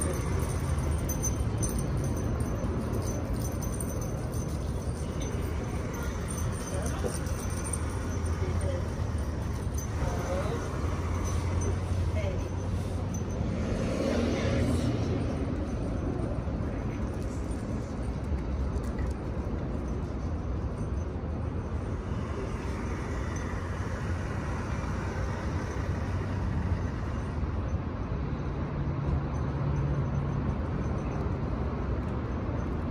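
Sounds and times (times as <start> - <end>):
road traffic rumble: 0.0 - 32.9.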